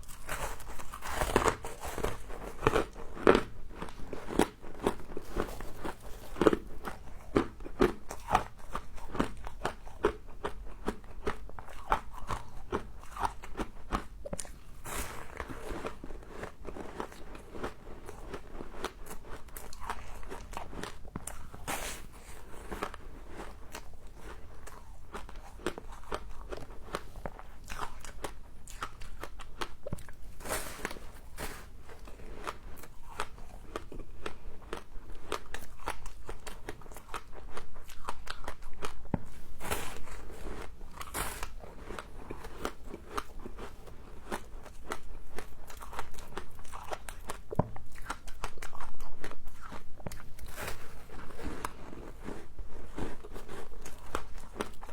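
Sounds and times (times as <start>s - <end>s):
crunching and chewing frost: 0.0s - 54.9s.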